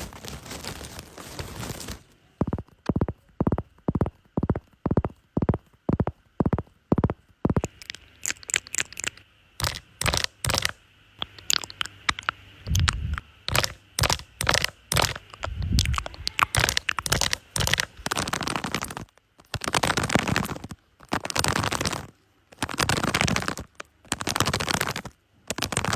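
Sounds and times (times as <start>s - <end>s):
sharp clicks and taps: 2.4s - 25.9s.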